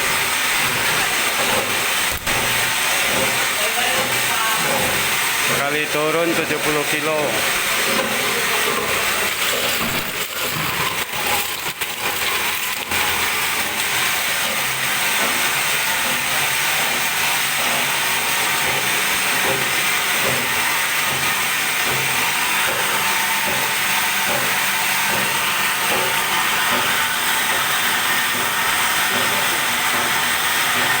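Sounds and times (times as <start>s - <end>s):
ice machine hissing: 0.0s - 31.0s.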